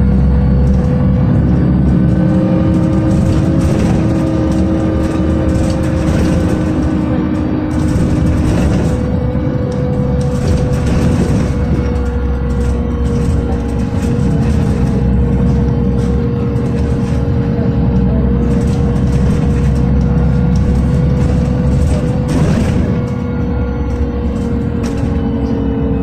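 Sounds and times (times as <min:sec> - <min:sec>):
bus engine and road rumble: 0:00.0 - 0:26.0
constant whine: 0:00.0 - 0:26.0.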